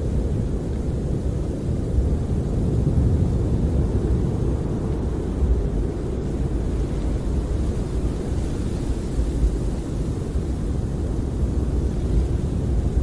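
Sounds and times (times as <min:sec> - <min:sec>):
snowstorm wind rushing: 0:00.0 - 0:13.0.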